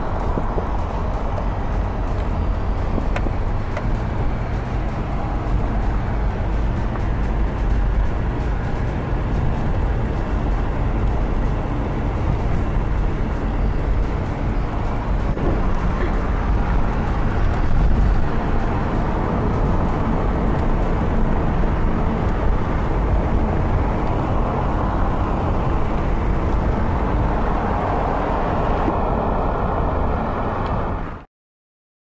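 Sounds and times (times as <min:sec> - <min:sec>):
car road and wind noise: 0:00.0 - 0:31.3.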